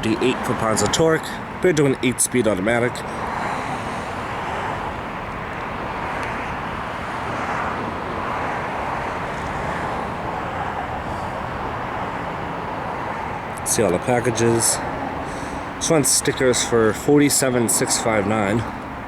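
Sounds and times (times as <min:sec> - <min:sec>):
traffic-like hiss and hum: 0:00.0 - 0:19.0.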